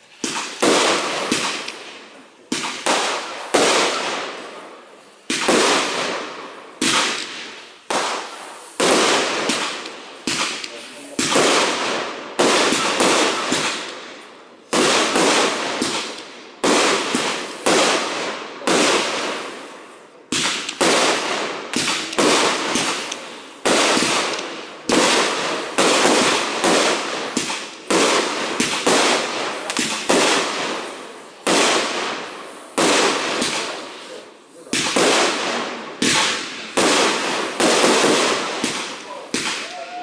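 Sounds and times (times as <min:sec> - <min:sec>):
fireworks shells bursting: 0:00.0 - 0:40.0.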